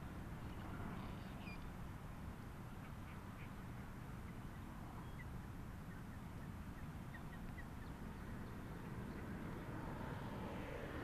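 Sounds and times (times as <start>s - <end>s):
low steady background rumble: 0.0s - 11.0s.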